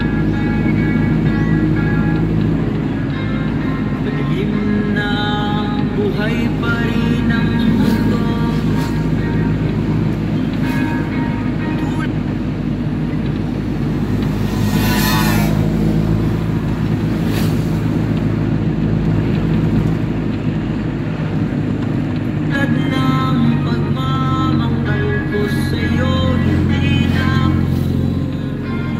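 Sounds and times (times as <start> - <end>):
car engine and tyre rumble: 0.0 - 28.9.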